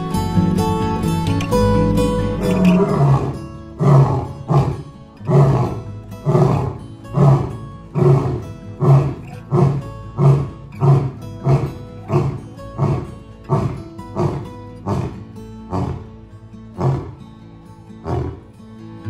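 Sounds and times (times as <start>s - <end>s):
lion roaring: 2.3s - 17.2s, 18.0s - 18.6s.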